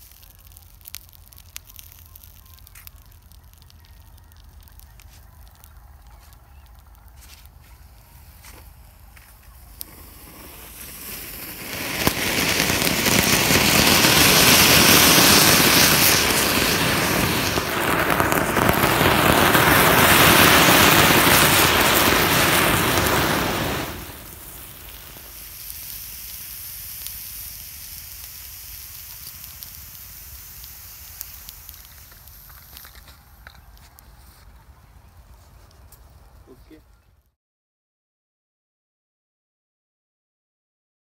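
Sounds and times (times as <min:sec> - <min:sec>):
firework spraying sparks hissing: 0:00.0 - 0:34.3
firework fuse fizzing: 0:00.0 - 0:36.8.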